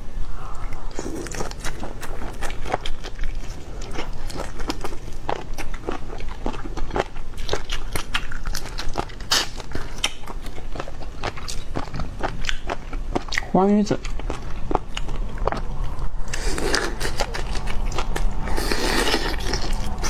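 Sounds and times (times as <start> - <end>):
crunchy biting and chewing: 0.7 - 20.0.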